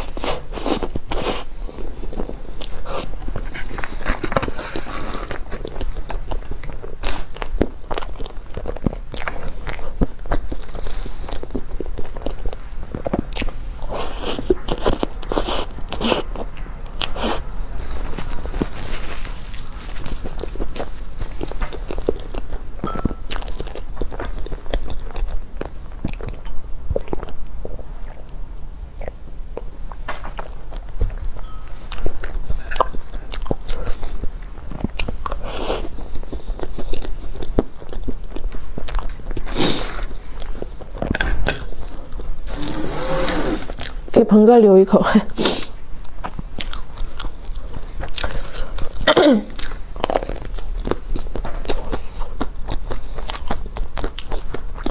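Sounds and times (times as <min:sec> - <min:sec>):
crunchy chewing: 0:00.0 - 0:28.4, 0:29.0 - 0:41.1, 0:41.8 - 0:44.2, 0:45.4 - 0:54.9.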